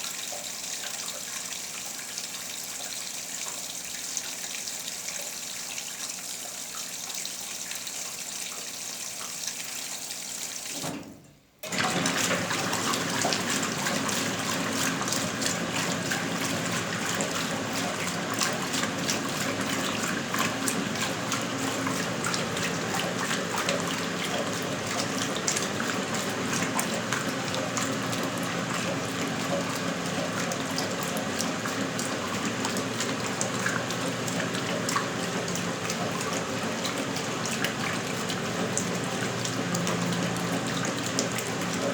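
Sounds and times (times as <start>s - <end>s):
water splashing in washing machine: 0.0s - 41.9s.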